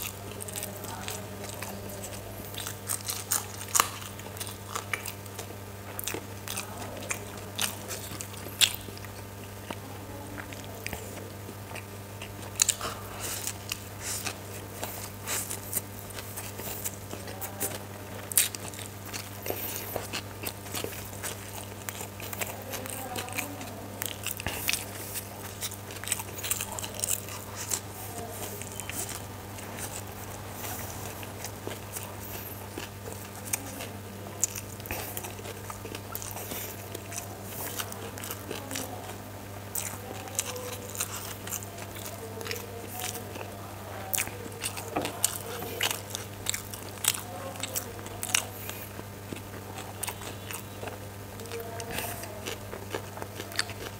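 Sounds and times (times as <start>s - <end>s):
man chewing noodles: 0.0s - 53.9s
steady low hum: 0.0s - 53.9s.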